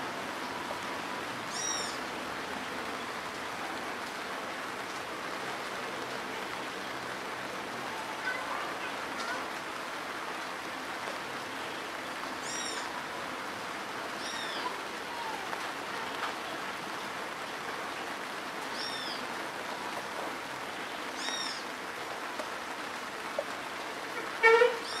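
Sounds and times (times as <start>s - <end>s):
rain on wet dirt road: 0.0s - 25.0s.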